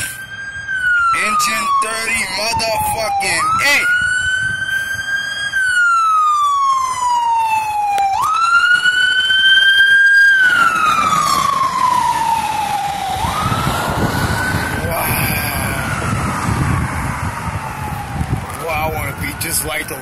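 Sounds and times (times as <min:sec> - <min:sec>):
fire engine siren wailing: 0:00.0 - 0:20.0.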